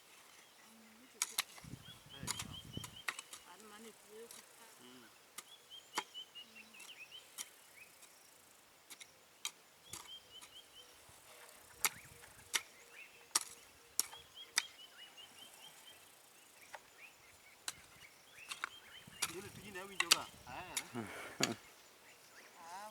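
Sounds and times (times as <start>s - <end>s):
small bird chirping: 0.2s - 22.9s.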